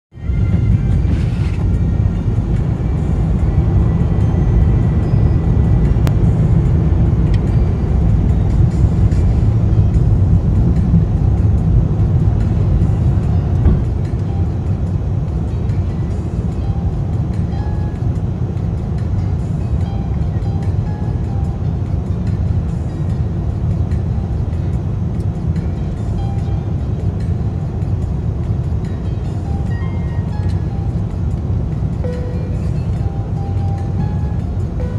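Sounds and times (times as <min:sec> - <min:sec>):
airplane cabin roar: 0:00.1 - 0:34.9.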